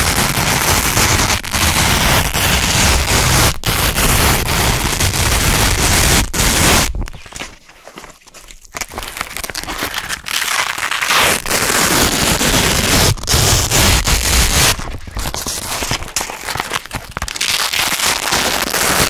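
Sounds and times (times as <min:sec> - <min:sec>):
velcro strips ripping apart: 0:00.0 - 0:07.3, 0:08.8 - 0:19.0.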